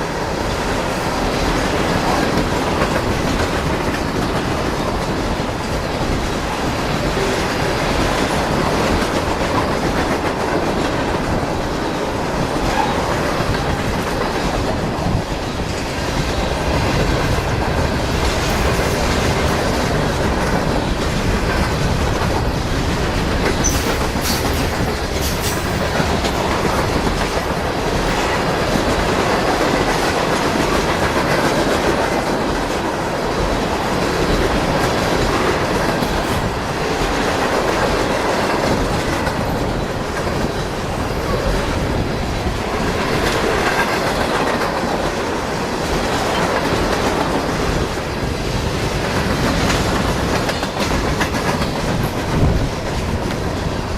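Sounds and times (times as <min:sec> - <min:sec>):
railroad cars rumbling past: 0:00.0 - 0:53.9
wheels clacking over rail joints: 0:00.0 - 0:53.9.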